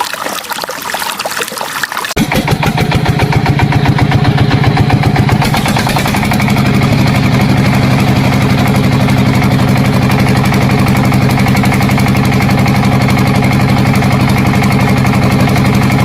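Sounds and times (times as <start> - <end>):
engine idling: 2.2 - 16.0.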